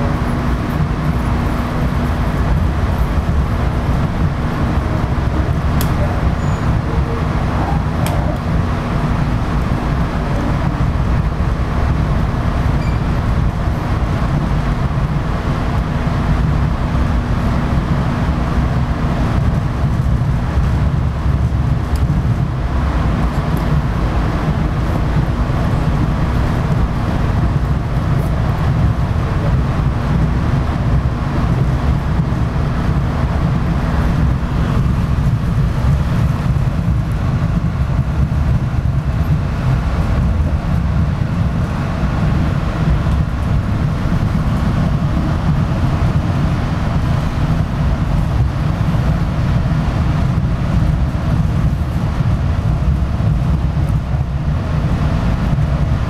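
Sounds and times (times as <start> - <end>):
steady hum: 0.0 - 56.0
train wheels rumbling: 0.0 - 56.0.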